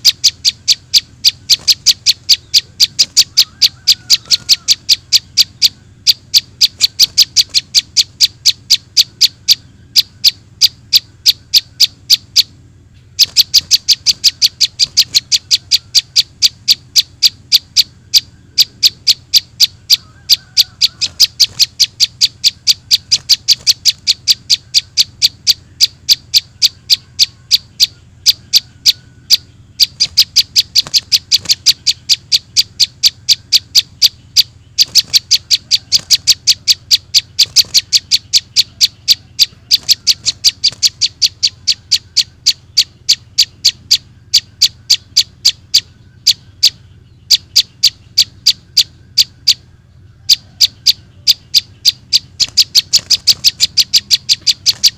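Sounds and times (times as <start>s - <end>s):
young bird chirps: 0.0s - 54.9s.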